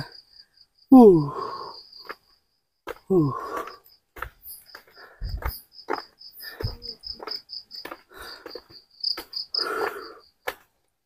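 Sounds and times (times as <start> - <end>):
cricket chirping rapidly: 0.0 - 10.7
footsteps on stone path: 1.3 - 11.0.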